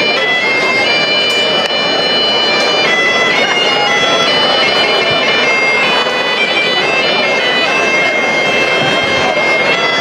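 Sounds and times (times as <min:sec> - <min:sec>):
bagpipe playing a tune: 0:00.0 - 0:10.0
crowd chatter: 0:00.0 - 0:10.0.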